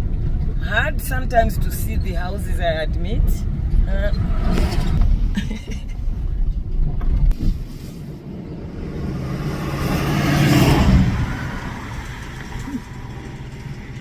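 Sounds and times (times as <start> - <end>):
car engine: 0.0 - 14.0
road noise: 0.0 - 14.0.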